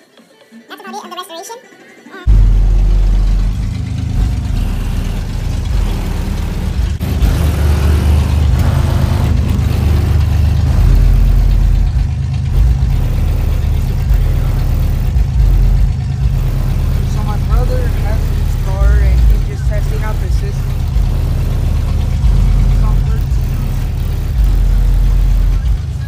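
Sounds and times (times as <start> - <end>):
car engine idling: 2.3 - 26.0.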